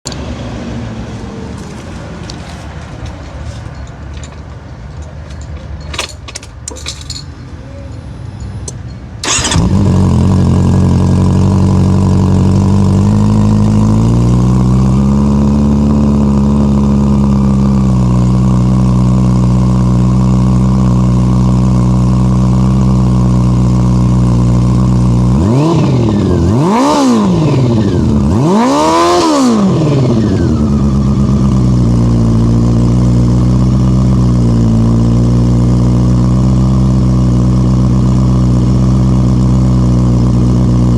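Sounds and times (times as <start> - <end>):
motorcycle engine idling and revving: 0.1 - 40.9.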